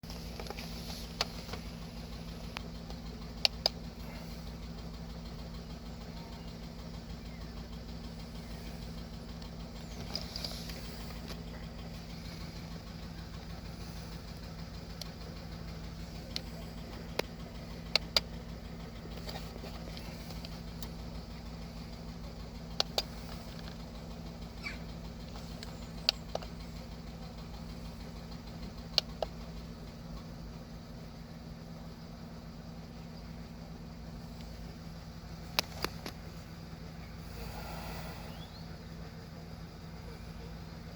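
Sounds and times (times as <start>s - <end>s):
car engine idling with misfire: 0.0s - 40.9s.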